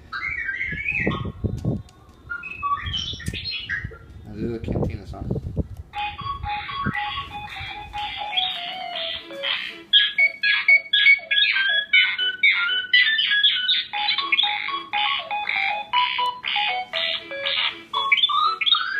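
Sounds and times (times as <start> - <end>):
electronic beeps and whistles: 0.1 - 1.4, 2.3 - 4.0, 6.0 - 18.9.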